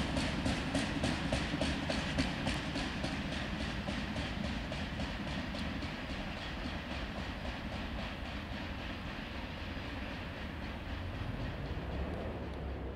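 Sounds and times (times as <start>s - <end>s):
clickety-clack at rail joints: 0.0s - 12.9s
train wheels rumbling on rails: 0.0s - 12.9s.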